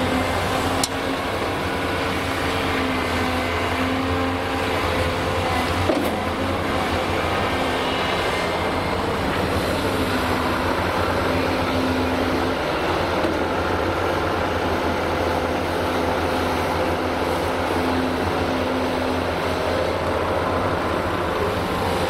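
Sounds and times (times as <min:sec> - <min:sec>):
excavator diesel engine: 0:00.0 - 0:22.0
hydraulics working: 0:00.0 - 0:22.0.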